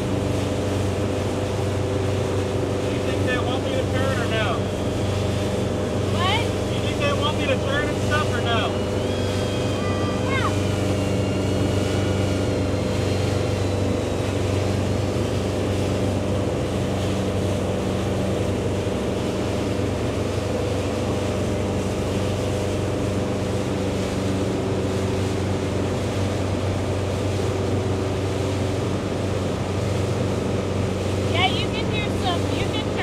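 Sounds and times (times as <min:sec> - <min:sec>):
motorboat engine humming: 0:00.0 - 0:33.0
water noise: 0:00.0 - 0:33.0
wind: 0:00.0 - 0:33.0.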